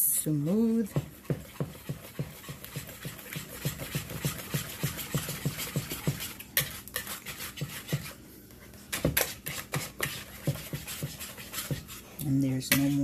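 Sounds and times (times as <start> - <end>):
whisk beating batter in a bowl: 0.1 - 13.0
whisk knocking against bowl: 0.5 - 8.1, 8.9 - 12.0, 12.6 - 13.0.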